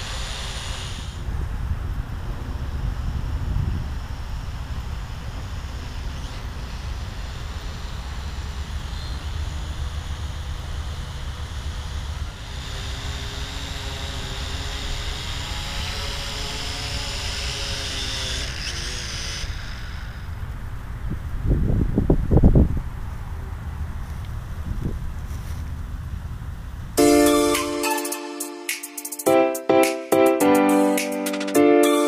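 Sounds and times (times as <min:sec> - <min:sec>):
drone propellers whining: 0:00.0 - 0:22.1, 0:26.5 - 0:32.0
low wind rumble on microphone: 0:00.0 - 0:27.0.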